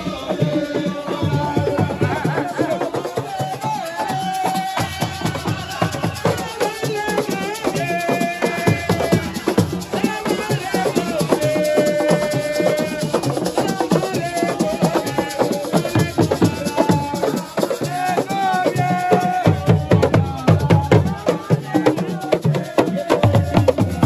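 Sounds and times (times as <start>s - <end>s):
hand drums: 0.0s - 24.0s
voices singing held notes: 0.0s - 24.0s.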